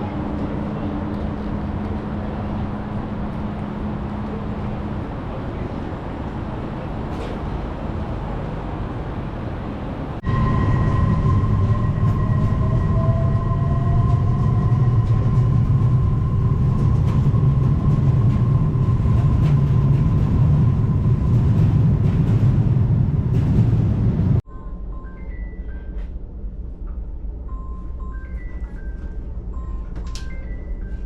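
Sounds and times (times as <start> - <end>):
train rumbling: 0.0 - 25.0, 25.6 - 31.0.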